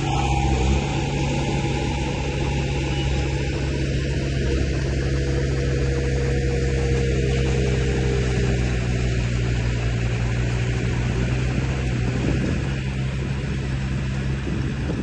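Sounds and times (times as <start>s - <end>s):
model vehicle engine hum: 0.0s - 15.0s.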